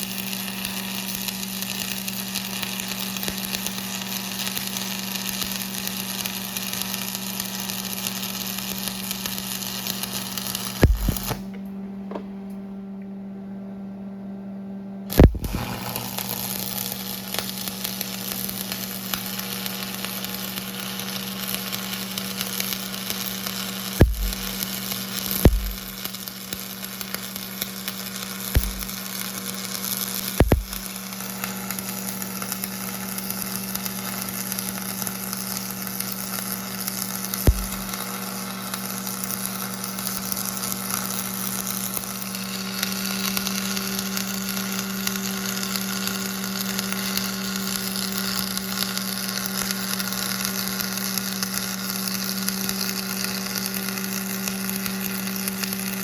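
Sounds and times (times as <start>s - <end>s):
welding arc hissing: 0.0s - 11.5s, 15.1s - 56.0s
welder low hum: 0.0s - 56.0s.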